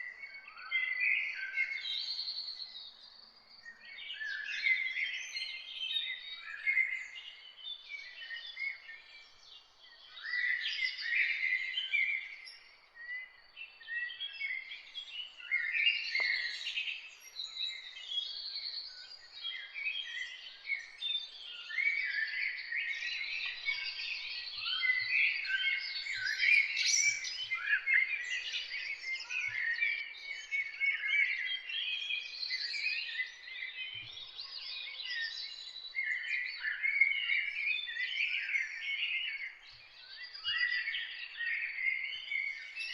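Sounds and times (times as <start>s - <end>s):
songbirds singing and chirping: 0.0s - 42.9s.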